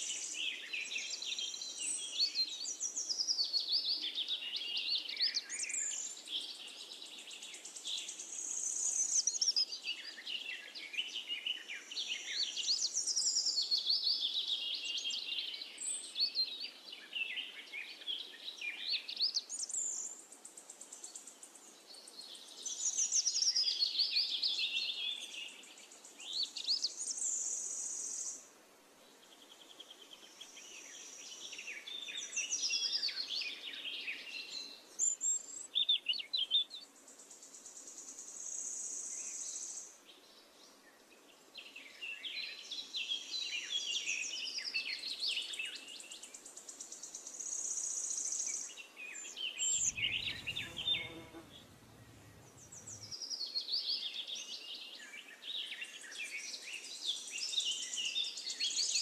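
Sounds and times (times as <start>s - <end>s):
songbirds singing: 0.0s - 28.4s, 29.1s - 59.0s.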